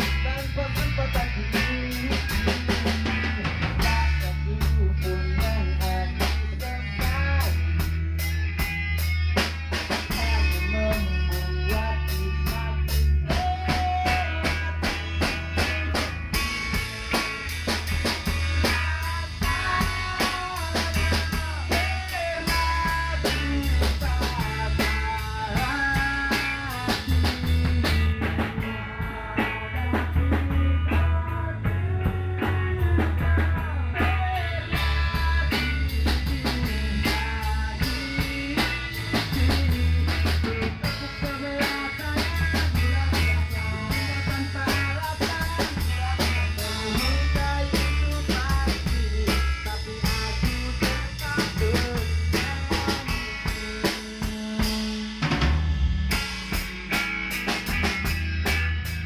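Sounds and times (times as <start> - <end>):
drum kit with cymbals: 0.0 - 59.0
electric guitar melody: 0.0 - 59.0.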